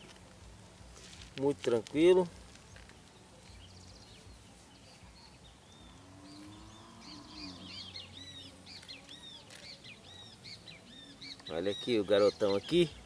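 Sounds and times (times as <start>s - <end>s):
many birds chirping: 2.2s - 13.0s.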